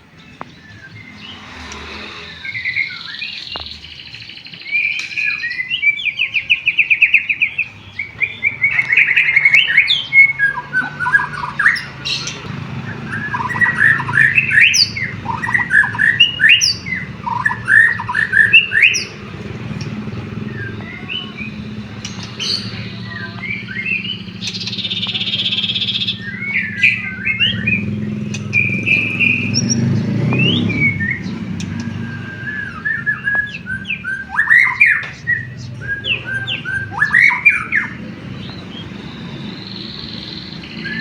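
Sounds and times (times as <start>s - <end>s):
bird singing whistled song: 0.2s - 41.0s.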